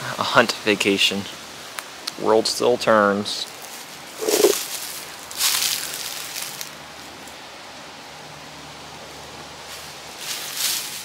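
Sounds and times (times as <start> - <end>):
wind through woods: 0.0 - 11.0.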